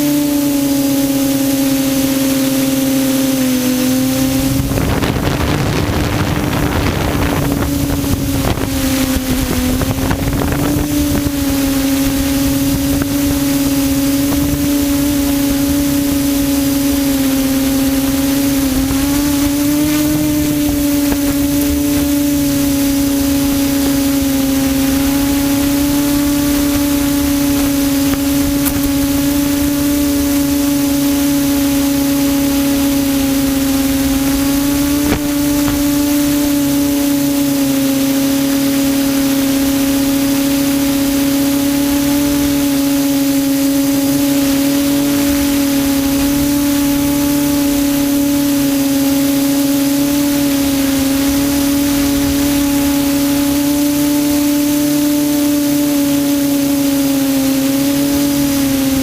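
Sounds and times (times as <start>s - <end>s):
drone propellers buzzing: 0.0s - 59.0s
wind noise on microphone: 0.0s - 59.0s.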